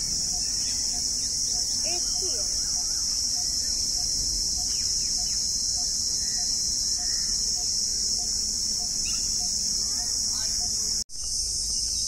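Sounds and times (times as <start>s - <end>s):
faint chirps: 0.0s - 12.0s
high insect drone: 0.0s - 12.0s.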